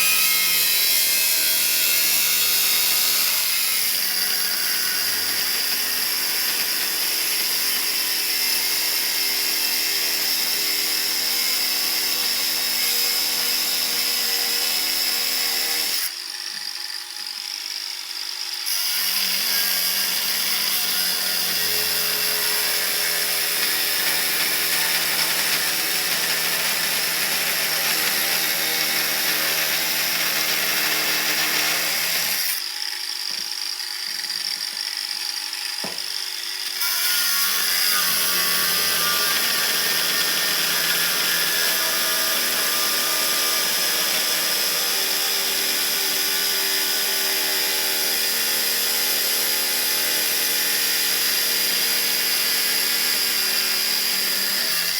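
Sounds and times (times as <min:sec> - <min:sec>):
power tool running: 0:00.0 - 0:54.9.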